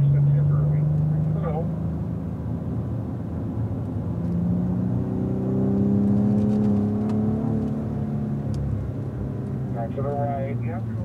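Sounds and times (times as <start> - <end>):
car engine accelerating: 0.0 - 11.0
tyre and road noise: 0.0 - 11.0.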